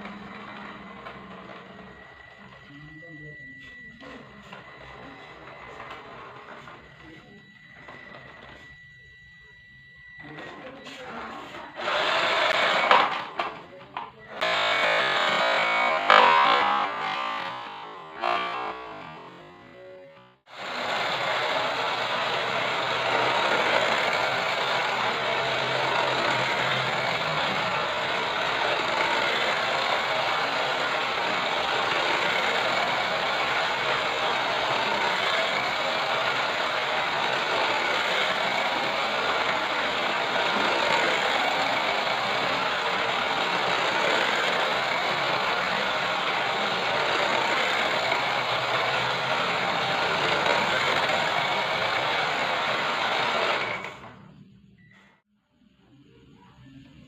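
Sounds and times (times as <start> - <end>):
model truck electric motor whirring: 0.0 - 54.4.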